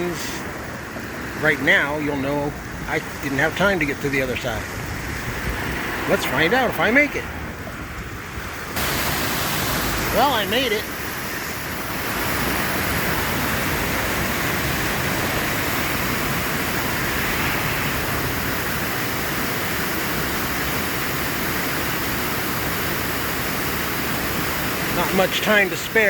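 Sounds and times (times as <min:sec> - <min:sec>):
river water roaring: 0:00.0 - 0:26.0.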